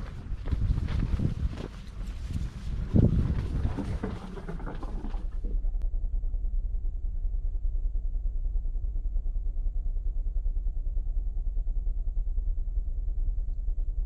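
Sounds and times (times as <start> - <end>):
low throbbing rumble: 0.0 - 14.0.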